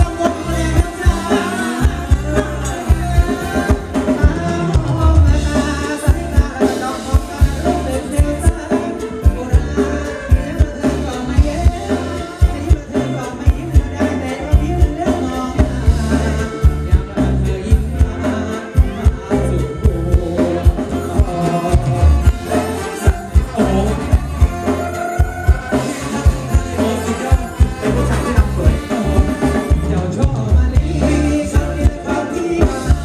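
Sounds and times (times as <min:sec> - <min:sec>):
live dance band playing: 0:00.0 - 0:33.0
person singing: 0:00.0 - 0:33.0.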